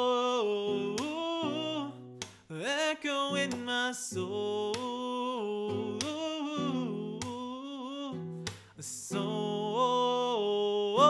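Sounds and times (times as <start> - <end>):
man singing: 0.0 - 11.0
strummed nylon-string guitar: 0.0 - 11.0.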